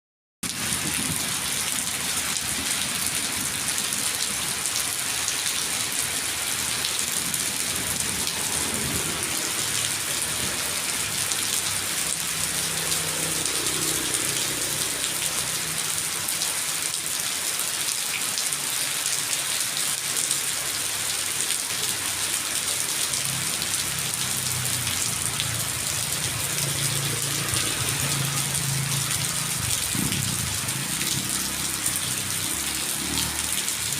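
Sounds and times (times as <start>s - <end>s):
heavy rainfall: 0.4s - 33.9s.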